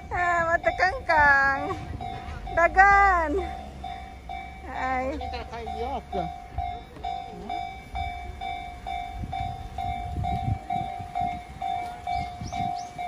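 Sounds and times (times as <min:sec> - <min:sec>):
level-crossing warning bell: 0:00.0 - 0:13.0.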